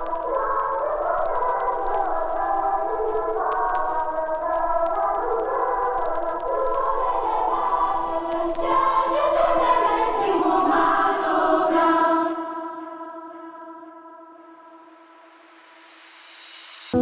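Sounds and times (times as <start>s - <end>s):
choir-like singing with held chords: 0.0s - 17.0s.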